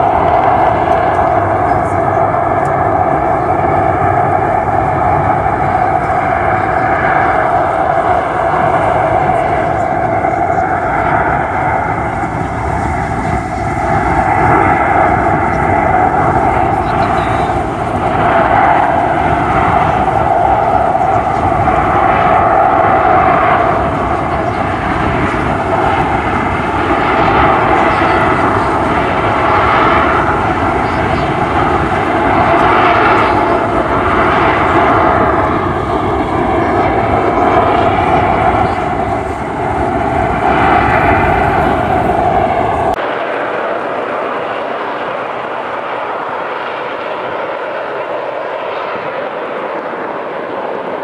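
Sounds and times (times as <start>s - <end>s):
jet engine roaring: 0.0s - 51.0s.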